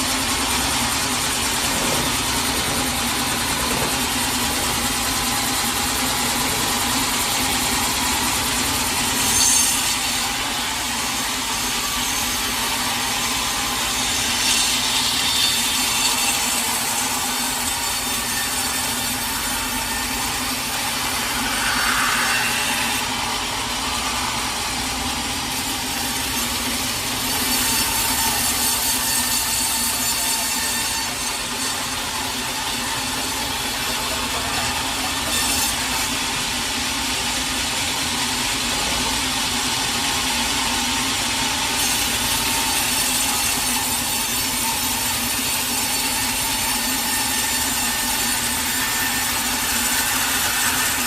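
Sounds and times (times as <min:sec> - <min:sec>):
sawmill saw cutting log: 0:00.0 - 0:51.0.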